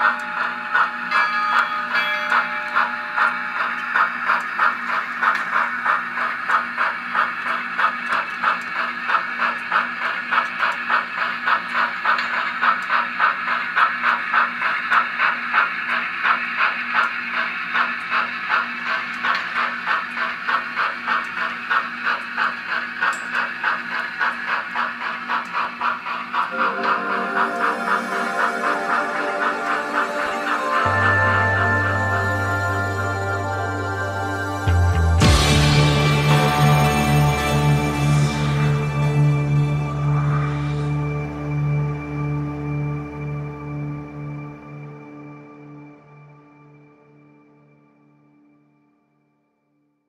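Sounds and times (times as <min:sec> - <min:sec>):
model steam locomotive chuffing: 0:00.0 - 0:46.1.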